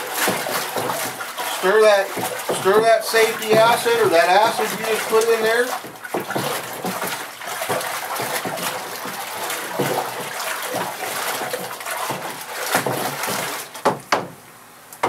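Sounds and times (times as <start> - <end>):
stick sloshing through water: 0.0 - 14.0.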